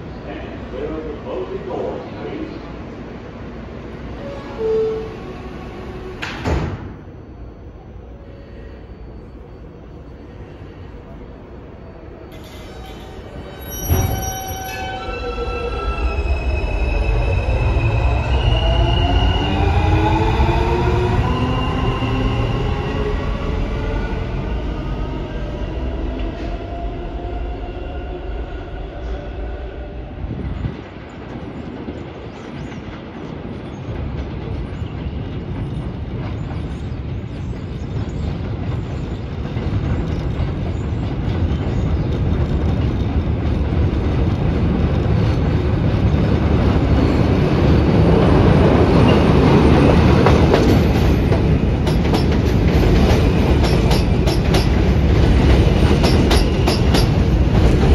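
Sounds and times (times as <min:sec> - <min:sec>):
train rumbling: 0:00.0 - 0:57.9.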